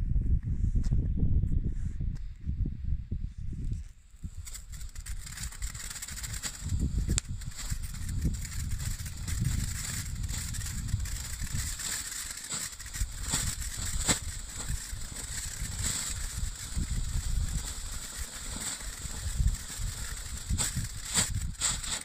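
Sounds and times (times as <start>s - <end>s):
firework crackles: 4.2s - 22.0s
firework fountain hissing: 4.2s - 22.0s
sharp firework crack: 4.3s - 22.0s.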